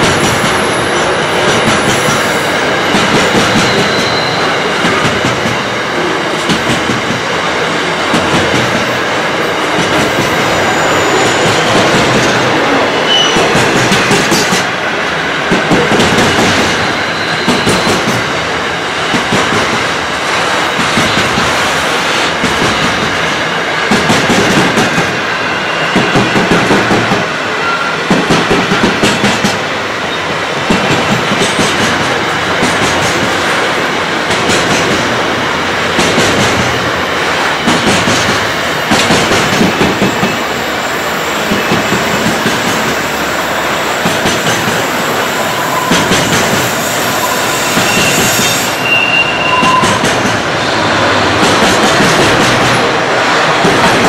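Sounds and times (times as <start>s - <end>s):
clickety-clack over rail joints: 0.0s - 25.2s, 25.9s - 27.4s, 28.0s - 47.0s, 49.4s - 54.0s
train wheels rumbling: 0.0s - 54.0s.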